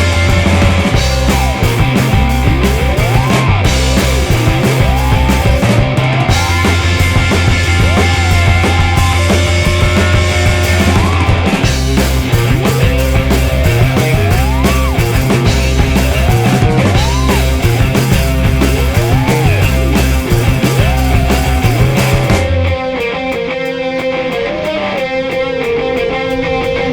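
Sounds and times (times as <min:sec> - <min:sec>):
driving bass line: 0:00.0 - 0:26.6
drums: 0:00.0 - 0:26.9
rock music with pitch-bending melody: 0:00.0 - 0:26.9.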